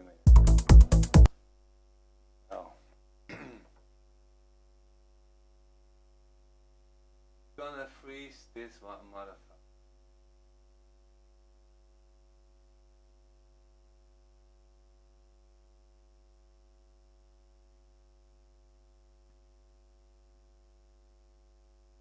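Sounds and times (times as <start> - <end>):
faint electrical mains hum: 1.3 - 22.0.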